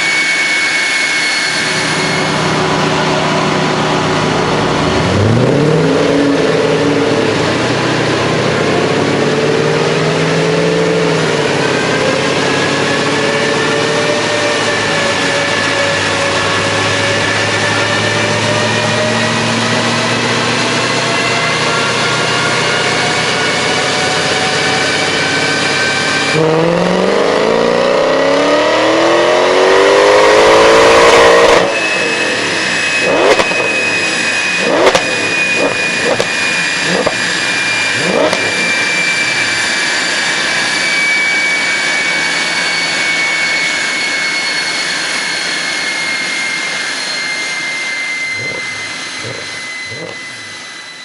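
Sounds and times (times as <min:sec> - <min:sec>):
car engine revving: 0:00.0 - 0:44.0, 0:47.2 - 0:50.8
high whine: 0:00.0 - 0:51.0.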